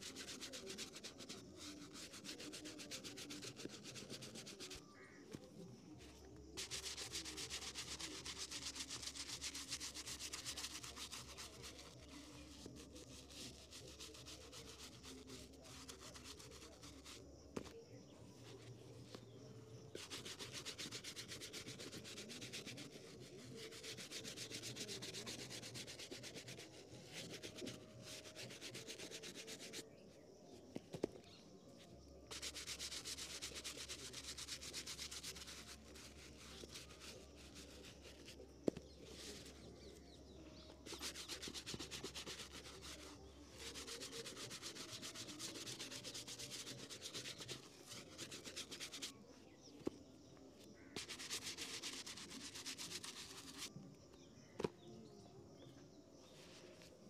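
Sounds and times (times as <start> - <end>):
rubbing on shoe surface: 0.0 - 30.0, 32.3 - 49.2, 50.6 - 53.8.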